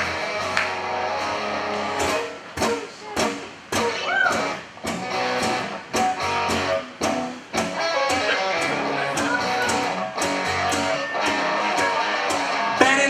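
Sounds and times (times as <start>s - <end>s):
electric guitar chords: 0.0s - 13.0s
steady drum beat: 0.0s - 13.0s.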